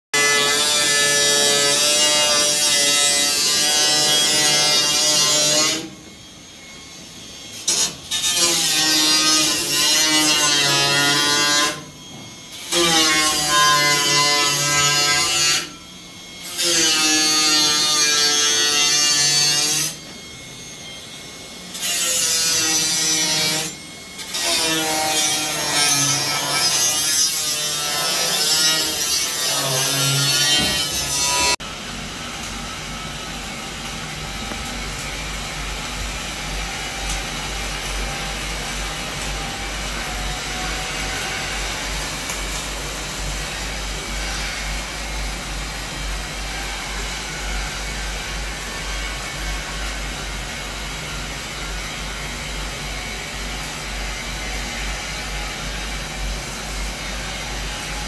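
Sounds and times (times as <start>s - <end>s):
angle grinder grinding steel: 0.2s - 58.0s.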